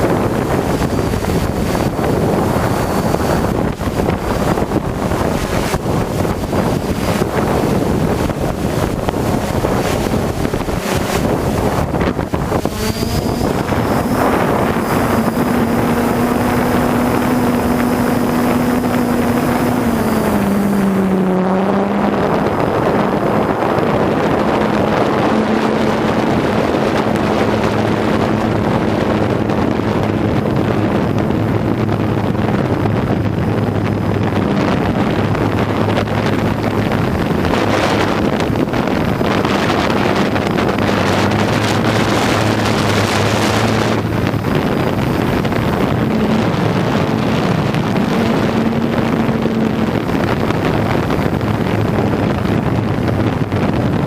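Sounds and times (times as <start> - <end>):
drone motors humming: 0.0 - 54.0
wind buffeting the microphone: 0.0 - 54.0.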